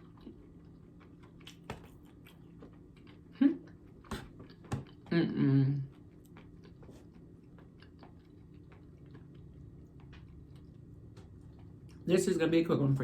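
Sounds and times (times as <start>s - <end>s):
chewing with wet mouth clicks: 0.0s - 5.1s, 5.9s - 12.1s.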